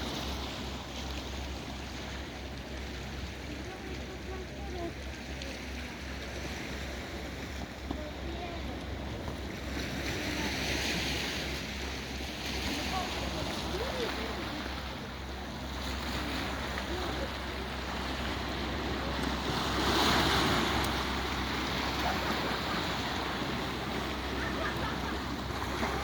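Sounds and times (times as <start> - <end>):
sea waves washing on shore: 0.0 - 26.0.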